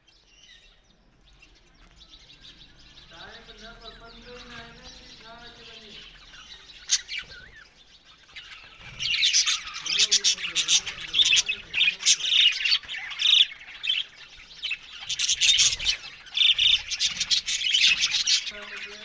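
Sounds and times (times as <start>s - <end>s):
budgies chattering and squawking: 0.0s - 19.0s.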